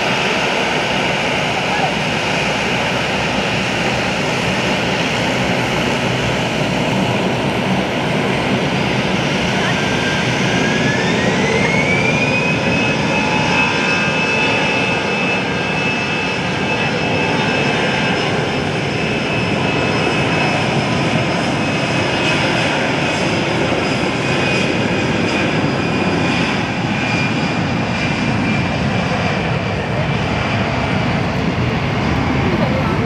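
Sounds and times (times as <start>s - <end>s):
jet engines roaring with whine: 0.0s - 33.0s.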